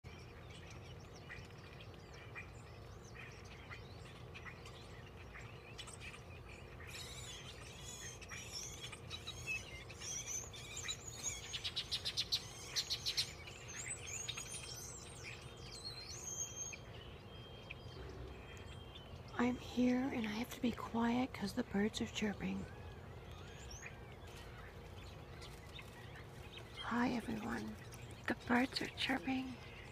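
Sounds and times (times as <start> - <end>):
birds chirping and calling: 0.0 - 29.9
faint low rumble: 0.1 - 29.9.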